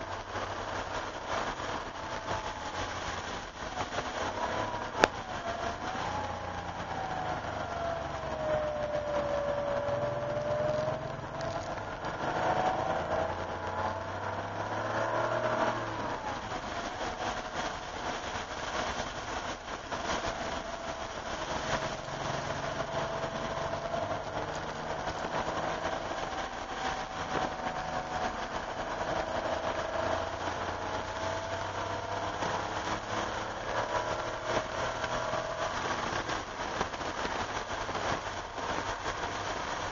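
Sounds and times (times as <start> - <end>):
car engine from inside cabin: 0.0 - 39.8.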